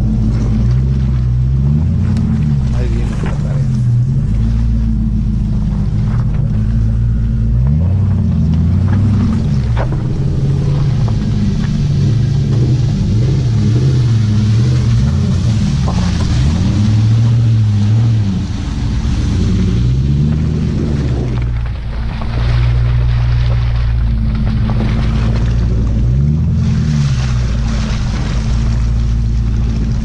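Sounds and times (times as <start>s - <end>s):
engine revving through mud: 0.0s - 30.0s.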